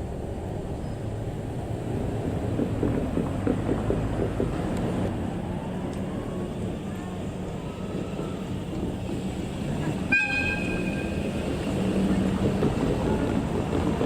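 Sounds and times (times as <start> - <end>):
diesel engine low rumble: 0.0 - 14.0.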